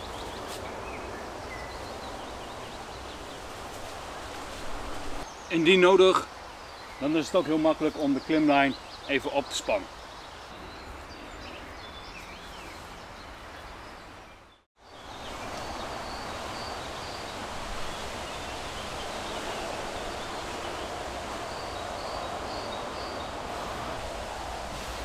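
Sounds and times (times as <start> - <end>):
rustling hiss of wind: 0.0 - 25.0.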